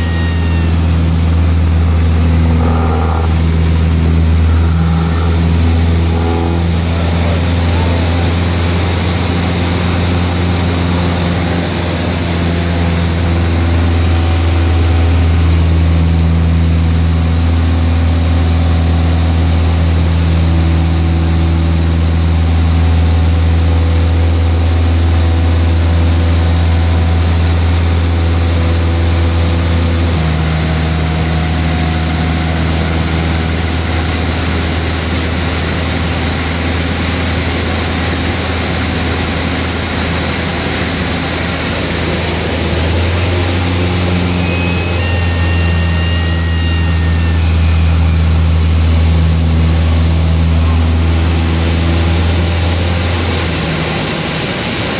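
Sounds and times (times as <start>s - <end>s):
propeller plane engine drone: 0.0s - 54.9s.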